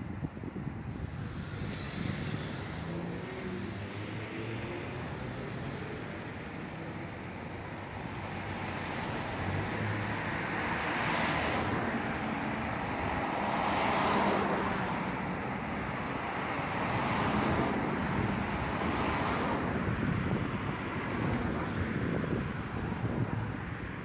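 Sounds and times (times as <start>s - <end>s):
cars passing: 0.8s - 24.0s.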